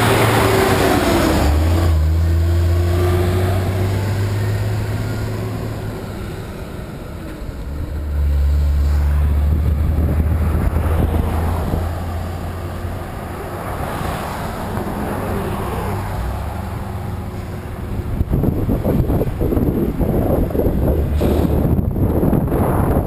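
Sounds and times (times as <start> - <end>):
wind buffeting microphone: 0.0 - 13.7, 16.0 - 23.0
motor traffic passing: 0.0 - 23.0.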